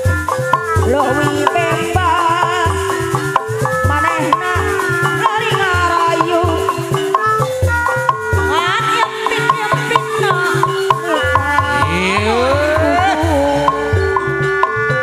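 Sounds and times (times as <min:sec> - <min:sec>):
hand drums steady beat: 0:00.0 - 0:15.0
sliding wavering melody instrument: 0:00.0 - 0:15.0.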